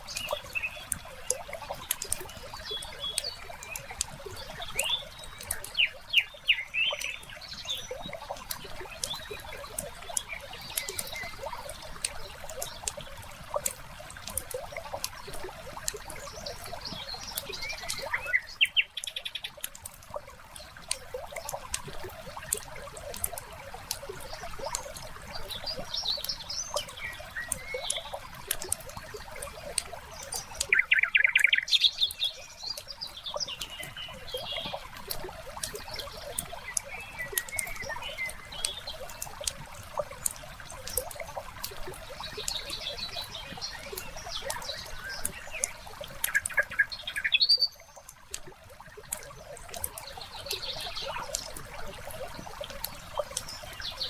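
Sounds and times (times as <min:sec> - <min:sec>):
birds chirping: 0:00.0 - 0:13.7, 0:14.3 - 0:23.4, 0:24.0 - 0:48.2, 0:48.8 - 0:54.0.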